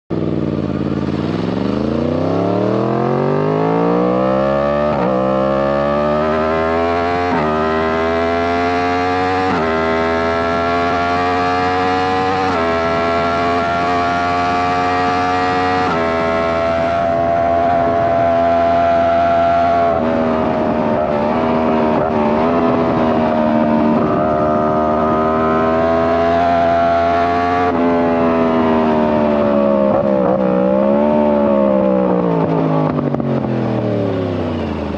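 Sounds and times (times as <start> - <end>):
motorcycle engine running loud: 0.1 - 34.9.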